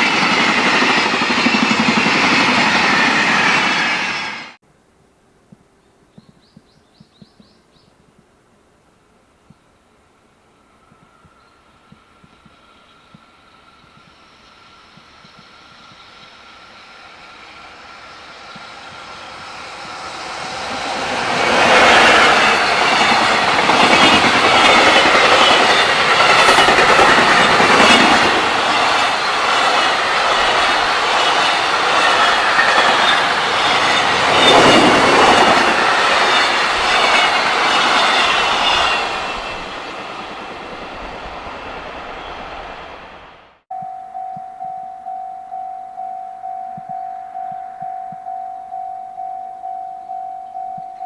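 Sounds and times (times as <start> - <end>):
freight train passing: 0.0 - 4.6, 10.6 - 43.6, 44.2 - 51.0.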